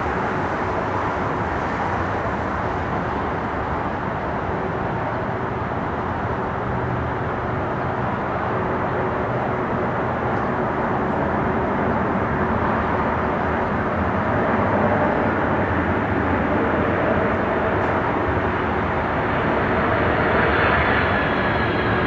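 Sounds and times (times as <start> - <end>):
faint engine whine: 0.0 - 22.0
jet plane engines rushing: 0.0 - 22.0.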